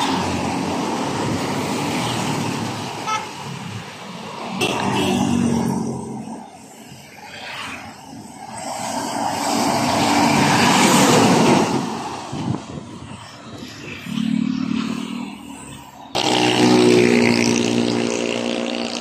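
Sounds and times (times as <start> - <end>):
heavy trucks passing on highway: 0.0 - 19.0.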